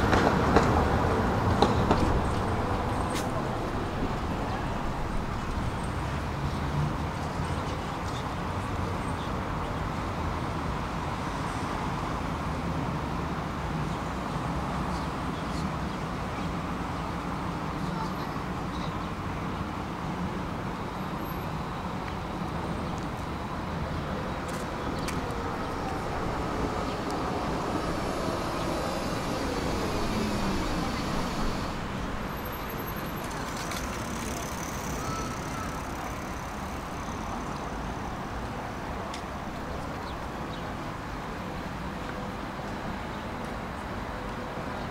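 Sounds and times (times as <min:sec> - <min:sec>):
tram rumble and hiss: 0:00.0 - 0:44.9.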